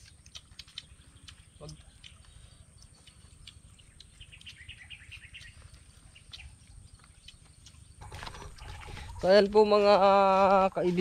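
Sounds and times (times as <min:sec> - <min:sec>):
bird chirps: 0:00.0 - 0:09.5.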